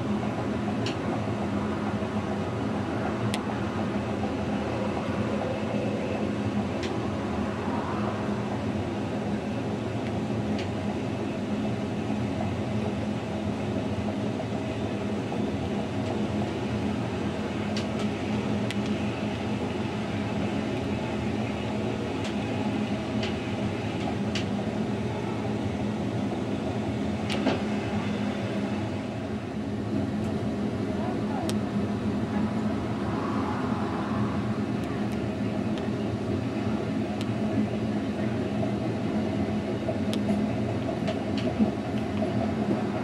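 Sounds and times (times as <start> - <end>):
electric train rolling on track: 0.0 - 43.0.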